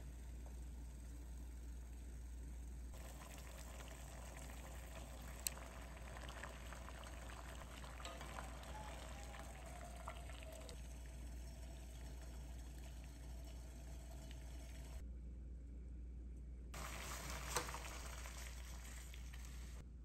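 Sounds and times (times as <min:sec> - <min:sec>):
water boiling and bubbling: 0:00.0 - 0:15.0, 0:16.8 - 0:19.8.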